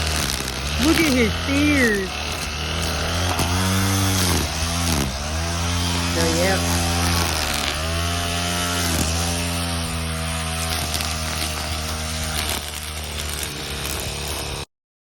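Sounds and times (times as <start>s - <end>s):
small engine buzzing: 0.0s - 14.7s.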